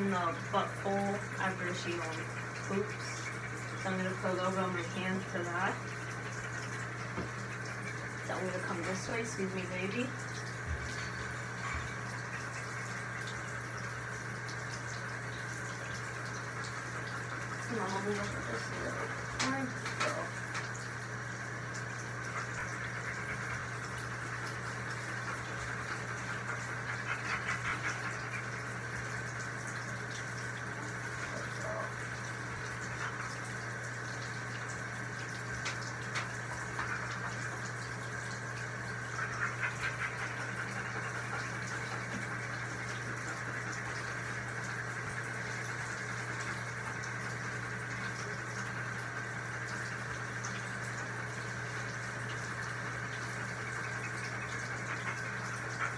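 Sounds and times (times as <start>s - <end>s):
water running into a bathtub: 0.0s - 55.9s.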